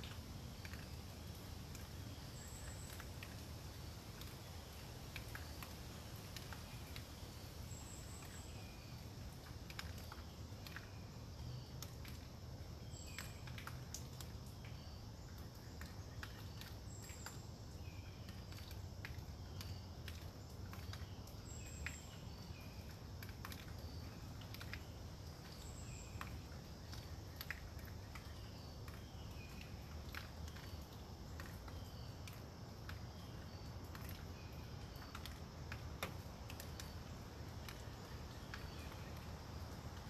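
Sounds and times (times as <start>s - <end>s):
drips pattering on leaves: 0.0s - 40.0s.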